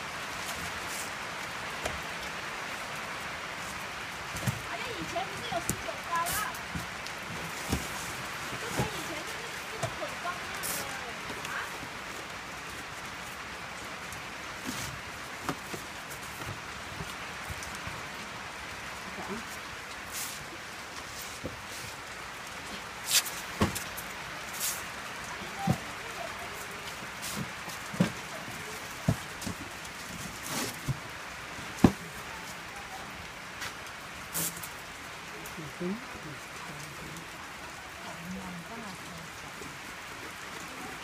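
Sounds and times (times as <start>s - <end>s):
steady background hiss: 0.0s - 41.0s.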